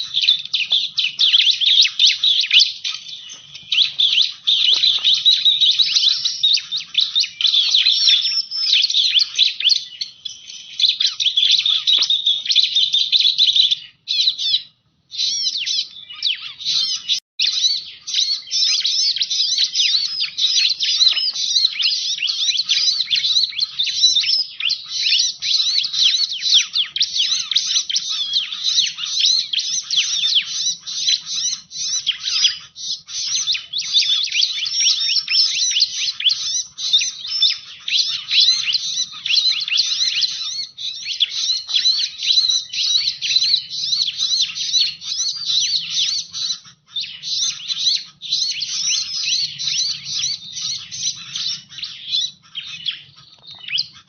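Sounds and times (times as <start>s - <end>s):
bird chirping and twittering: 0.0s - 54.0s.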